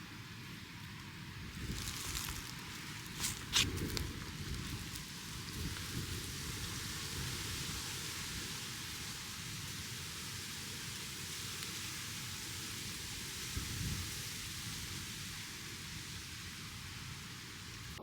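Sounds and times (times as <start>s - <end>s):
hiss of falling rain: 0.0s - 18.0s.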